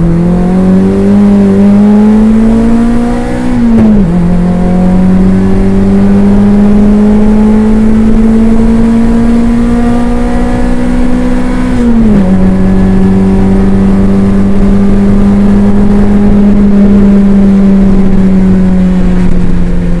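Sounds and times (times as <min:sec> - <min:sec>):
race car engine running hard: 0:00.0 - 0:20.0.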